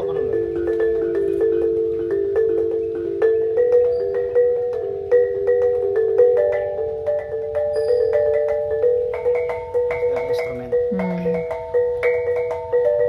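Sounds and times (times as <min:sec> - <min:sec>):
tuned gongs melody: 0:00.0 - 0:13.0.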